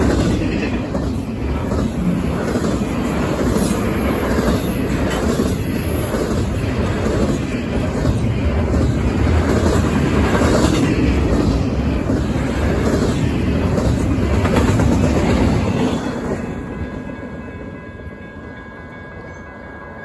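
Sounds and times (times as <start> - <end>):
steel wheels on rail: 0.0 - 20.0.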